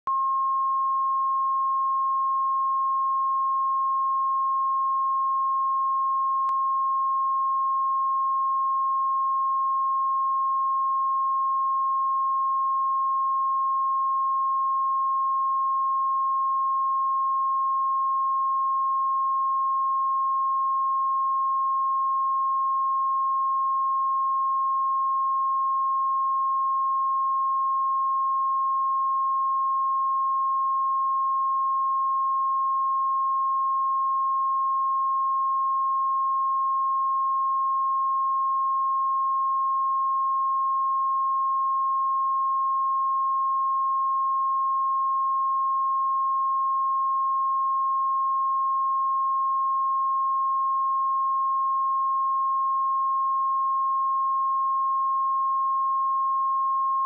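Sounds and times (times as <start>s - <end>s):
sine wave test tone: 0.0s - 57.0s.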